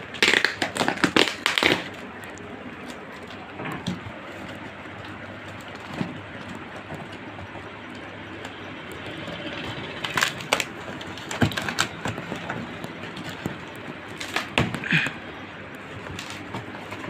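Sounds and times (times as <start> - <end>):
cardboard tearing: 0.0 - 7.4, 10.0 - 15.2, 15.8 - 17.0
steady background noise: 0.0 - 17.0.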